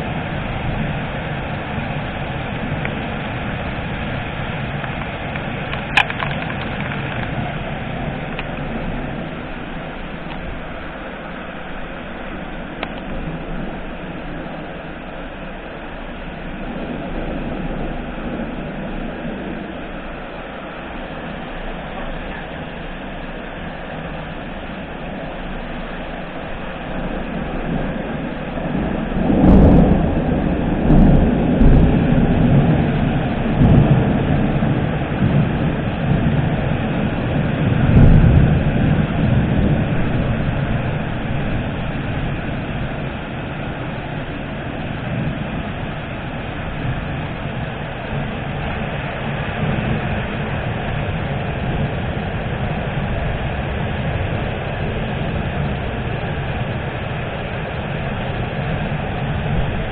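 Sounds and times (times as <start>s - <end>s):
steady rain: 0.0s - 59.9s
thunder crack and rumble: 0.0s - 59.9s.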